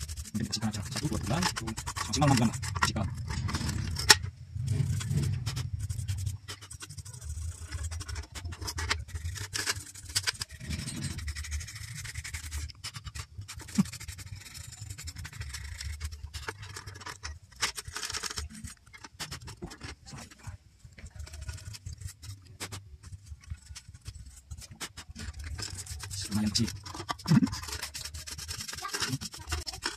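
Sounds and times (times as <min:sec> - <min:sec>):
hands scratching and clicking on metal: 0:00.0 - 0:29.9.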